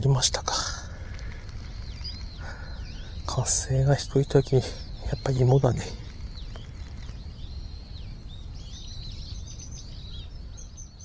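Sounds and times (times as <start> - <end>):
low background rumble: 0.0 - 11.0
small birds chirping: 0.0 - 11.0.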